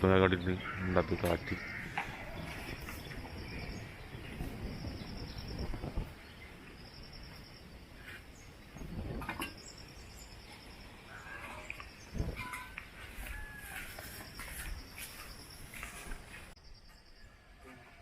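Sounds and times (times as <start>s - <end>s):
wind blowing through trees: 0.0s - 18.0s.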